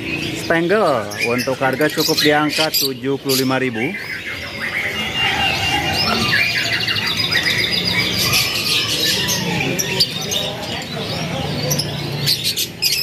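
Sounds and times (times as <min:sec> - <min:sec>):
caged birds chirping and squawking: 0:00.0 - 0:13.0
fast rattling bird trill: 0:00.0 - 0:13.0.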